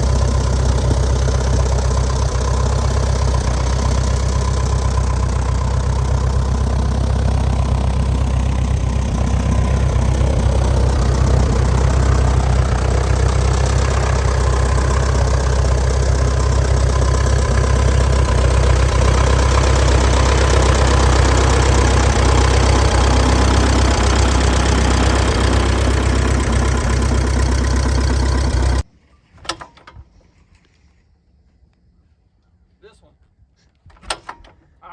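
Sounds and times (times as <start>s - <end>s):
small plane engine and propeller: 0.0s - 28.8s.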